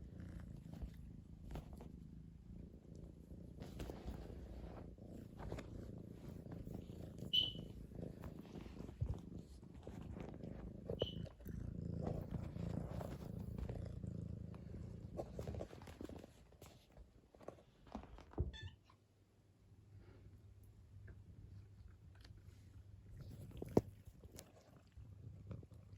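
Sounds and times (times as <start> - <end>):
cat purring: 0.0 - 18.2, 20.0 - 25.9.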